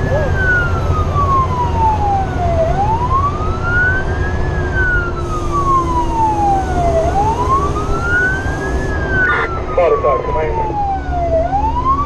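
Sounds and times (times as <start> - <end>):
fire truck siren wailing: 0.0 - 12.0
road noise: 0.0 - 12.0
truck engine rumble: 0.0 - 12.0.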